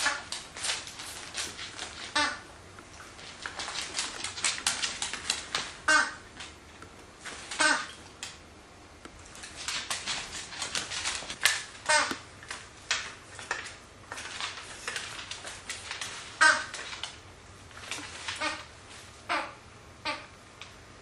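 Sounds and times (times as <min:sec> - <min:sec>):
dogs' claws clicking and scuffling: 0:00.0 - 0:08.4, 0:09.1 - 0:19.1.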